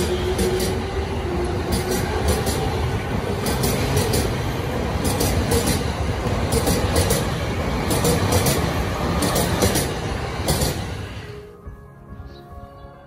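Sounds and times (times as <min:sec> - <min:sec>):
wheels clicking over rail joints: 0:00.0 - 0:11.0
train wheels rumbling on rail: 0:00.0 - 0:11.5.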